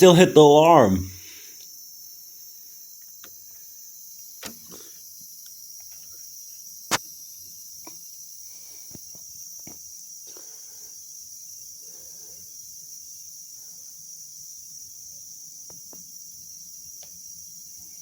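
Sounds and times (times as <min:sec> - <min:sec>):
high-pitched hiss: 0:00.0 - 0:18.0.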